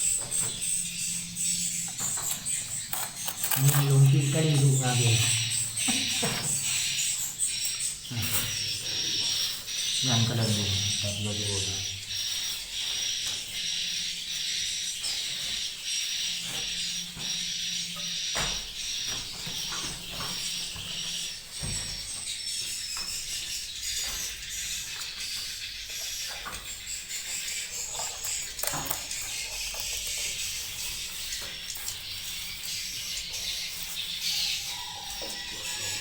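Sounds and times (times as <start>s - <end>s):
swiftlets twittering and chirping: 0.0s - 36.0s.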